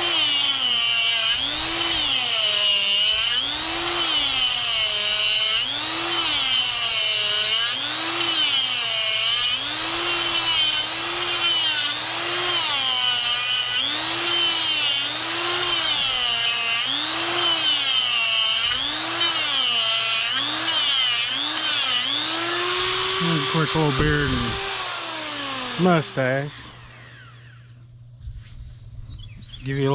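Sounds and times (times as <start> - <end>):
die grinder cutting wood: 0.0 - 27.8.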